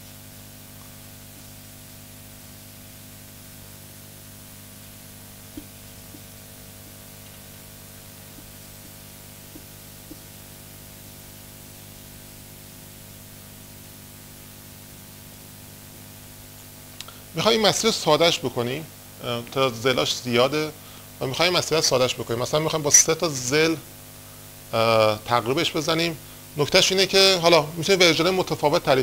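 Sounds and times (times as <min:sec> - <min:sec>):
hiss and electrical hum: 0:00.0 - 0:29.0.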